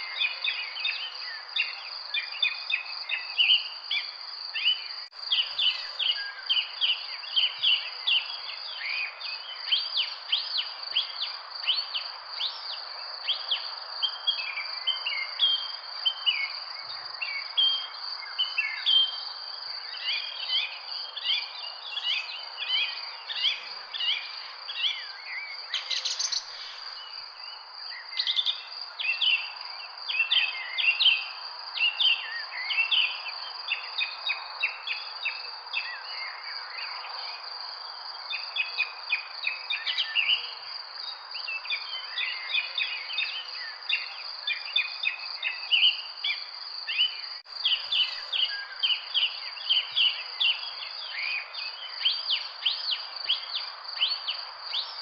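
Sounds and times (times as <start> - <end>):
small birds chirping and singing: 0.0 - 55.0.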